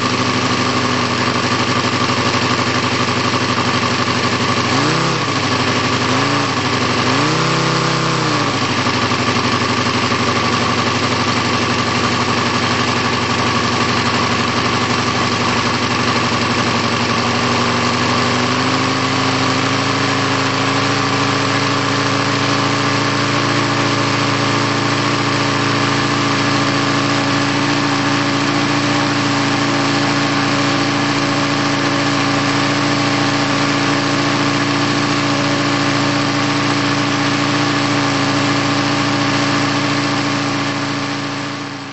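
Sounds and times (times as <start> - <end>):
model aircraft engine running: 0.0 - 41.9.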